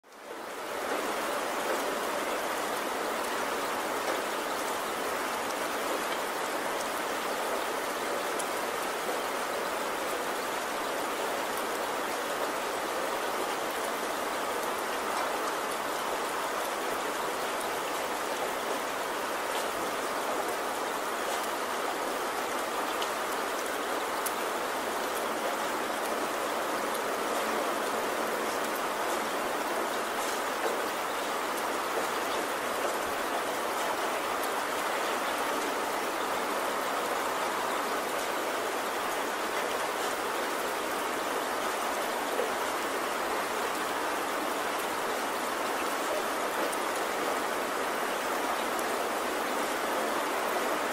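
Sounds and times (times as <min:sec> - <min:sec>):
rain-like water noise: 0:00.0 - 0:50.9.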